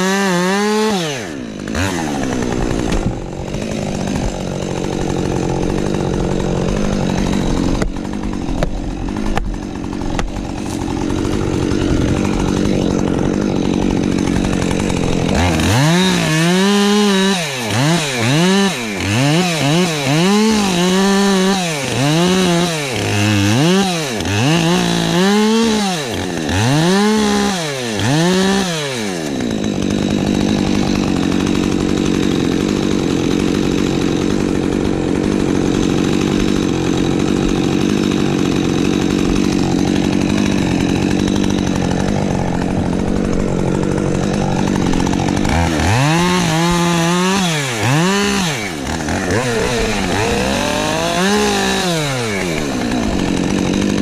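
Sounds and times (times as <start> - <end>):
chainsaw running and revving: 0.0 - 54.0.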